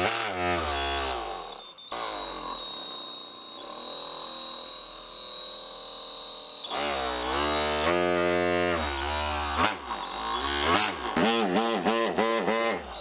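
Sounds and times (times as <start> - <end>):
battery motor whining drone: 0.0 - 13.0.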